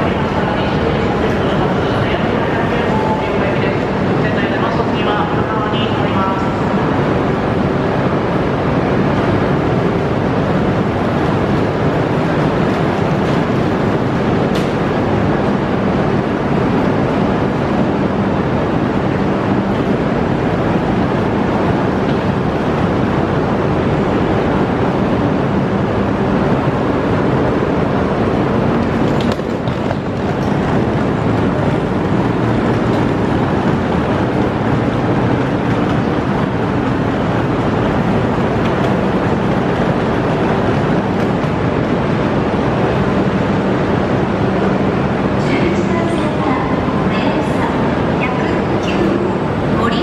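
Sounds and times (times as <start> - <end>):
bullet train rumble with low hum: 0.0 - 50.0.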